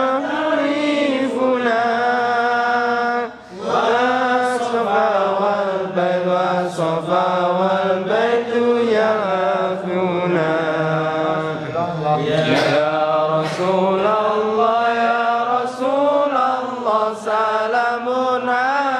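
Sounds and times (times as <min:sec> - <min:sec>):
man chanting devotional verses: 0:00.0 - 0:18.9.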